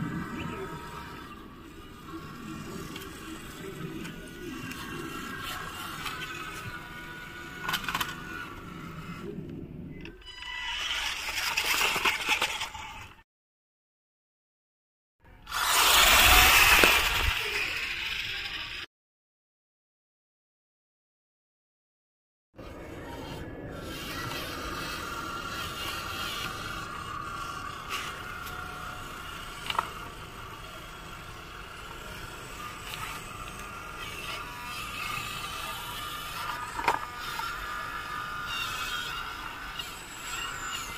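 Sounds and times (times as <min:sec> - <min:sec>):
rc car motor whining: 0:00.0 - 0:09.4, 0:10.1 - 0:13.2, 0:15.4 - 0:18.9, 0:22.7 - 0:40.9.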